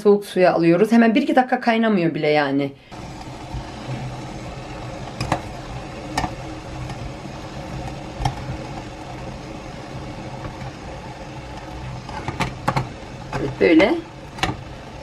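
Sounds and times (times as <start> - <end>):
steady hum and hiss: 2.7 - 15.0.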